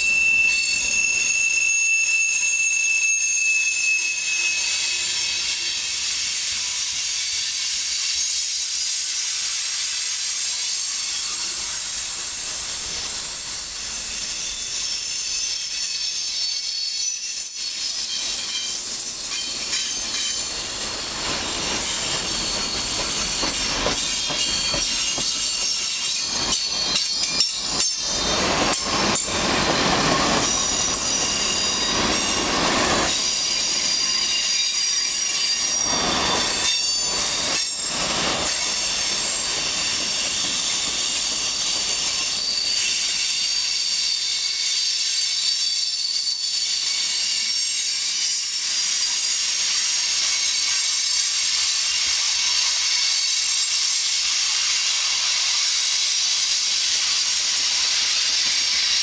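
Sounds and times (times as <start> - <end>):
high wheel squeal: 0.0 - 59.0.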